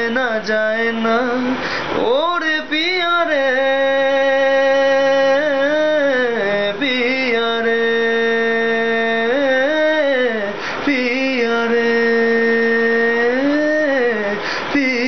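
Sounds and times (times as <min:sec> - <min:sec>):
man singing wordless held notes: 0:00.0 - 0:15.0.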